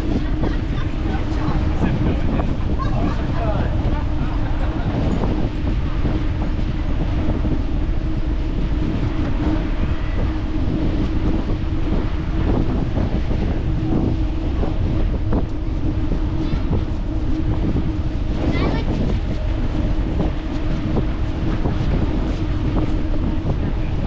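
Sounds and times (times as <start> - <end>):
constant hum: 0.0 - 24.0
wind rushing over microphone: 0.0 - 24.0.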